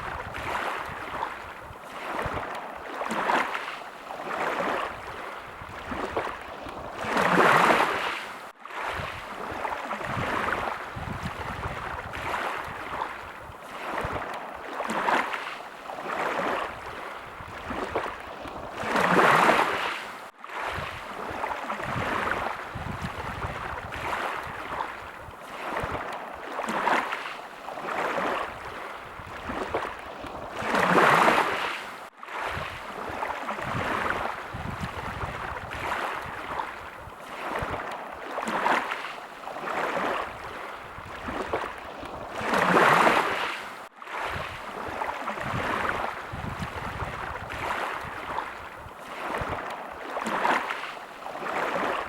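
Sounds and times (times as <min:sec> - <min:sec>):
small waves lapping: 0:00.0 - 0:52.0.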